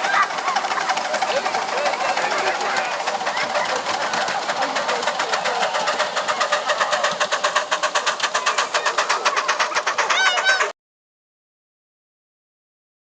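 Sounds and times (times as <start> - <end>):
miniature steam locomotive exhaust beats: 0.0 - 10.8.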